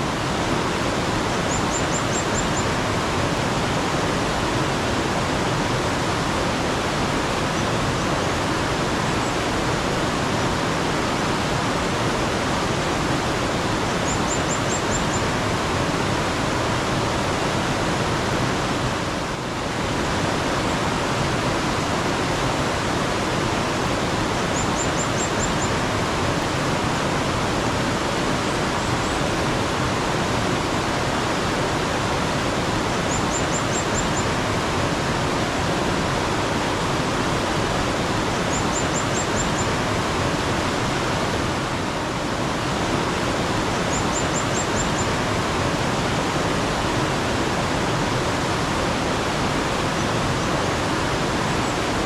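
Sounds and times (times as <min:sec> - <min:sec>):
mountain stream rushing: 0:00.0 - 0:52.0.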